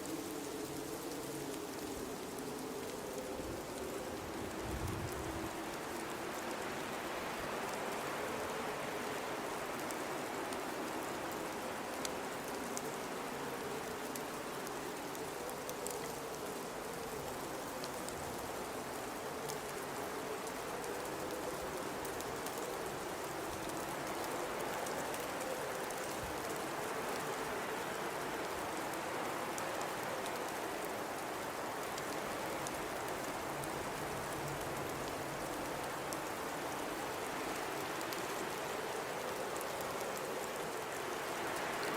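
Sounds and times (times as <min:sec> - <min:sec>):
low wind howl: 0:00.0 - 0:41.9.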